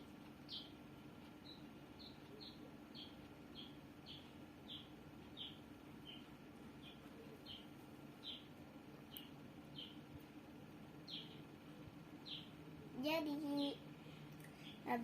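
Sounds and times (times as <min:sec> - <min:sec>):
faint steady hum: 0:00.0 - 0:15.0
small bird chirping: 0:00.1 - 0:15.0.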